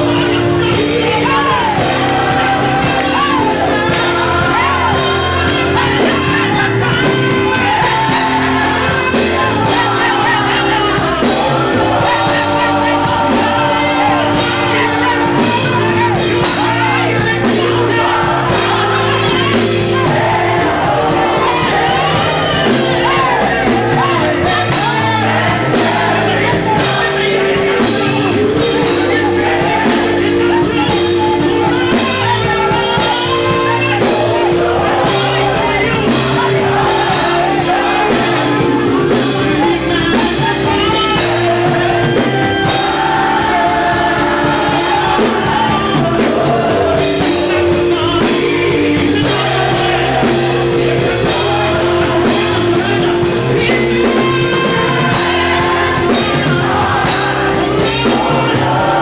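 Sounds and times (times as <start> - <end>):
band playing with drum beat: 0.0 - 59.0
man singing into a microphone: 0.0 - 59.0.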